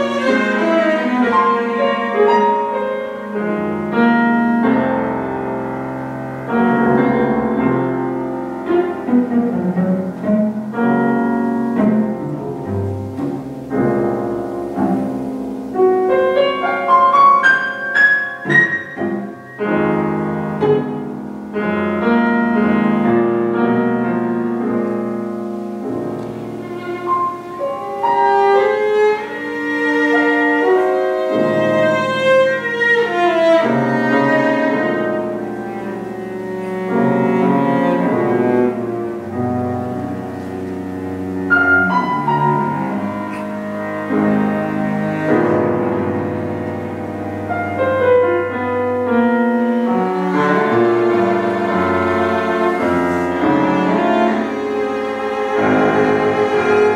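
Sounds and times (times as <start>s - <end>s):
cello bowed notes: 0.0s - 56.9s
piano accompaniment: 0.0s - 56.9s.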